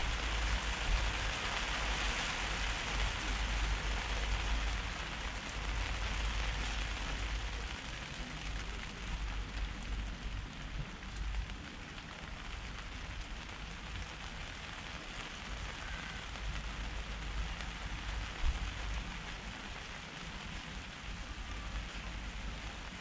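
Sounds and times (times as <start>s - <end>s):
rain pattering on a tent: 0.0s - 23.0s.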